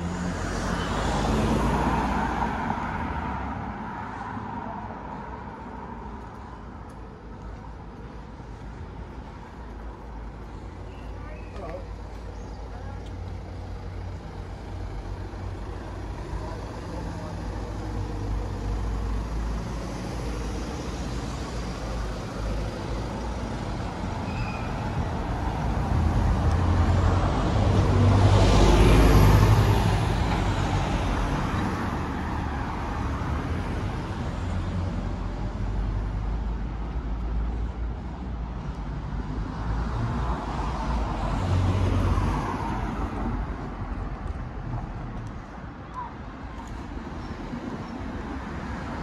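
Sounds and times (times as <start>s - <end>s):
cars passing with low rumble: 0.0s - 49.0s.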